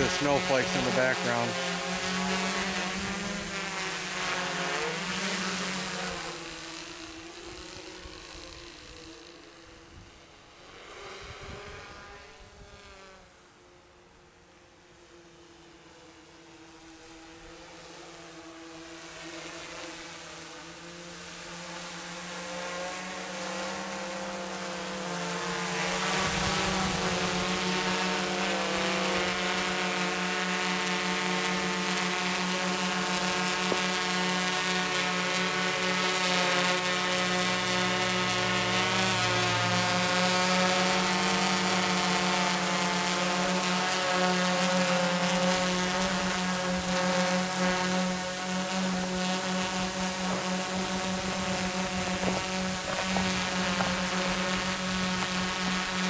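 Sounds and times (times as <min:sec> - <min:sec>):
quadcopter motors buzzing: 0:00.0 - 0:56.0.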